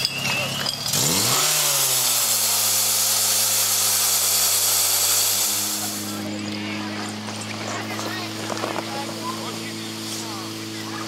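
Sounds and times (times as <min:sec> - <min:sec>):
pump engine revving high: 0:00.0 - 0:11.0.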